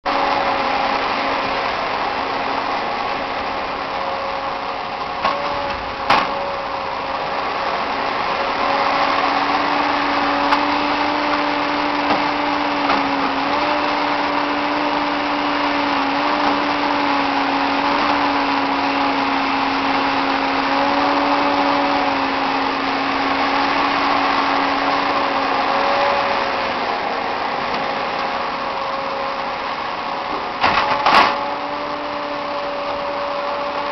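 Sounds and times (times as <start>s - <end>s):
diesel engine and hydraulics running: 0.0s - 33.9s.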